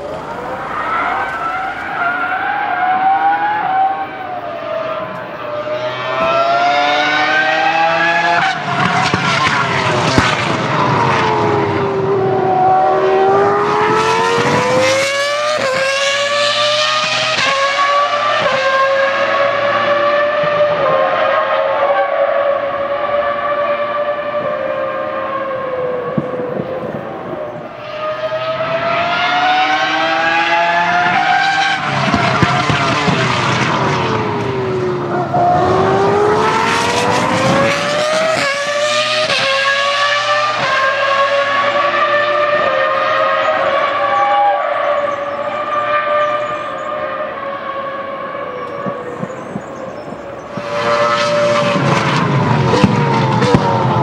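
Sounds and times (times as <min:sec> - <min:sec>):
race car engine screaming: 0:00.0 - 0:26.4, 0:27.8 - 0:50.0, 0:50.6 - 0:54.0.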